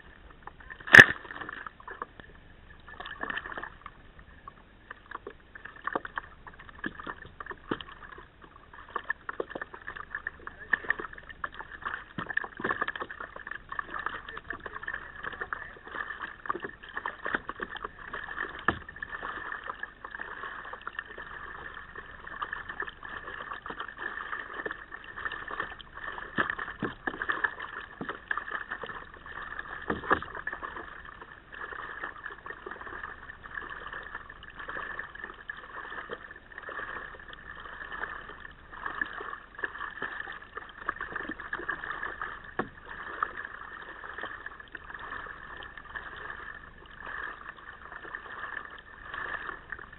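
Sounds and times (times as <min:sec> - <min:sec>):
paddle stroke splashes: 0:00.0 - 0:49.9
water gurgling against kayak: 0:00.0 - 0:49.9.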